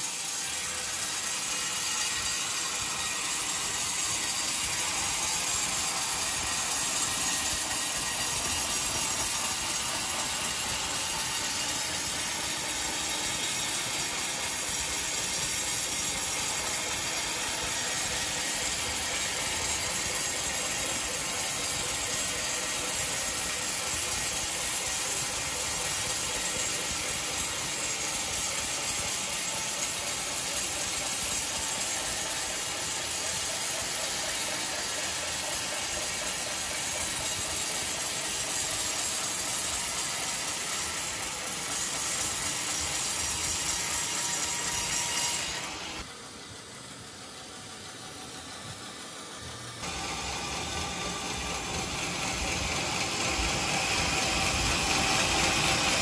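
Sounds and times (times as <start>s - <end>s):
band saw running: 0.0s - 56.0s.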